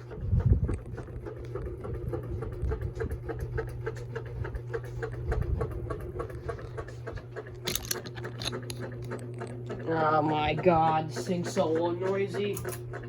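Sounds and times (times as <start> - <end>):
ceiling fan motor hum: 0.0 - 13.0
fan ticking and rattling: 0.0 - 13.0.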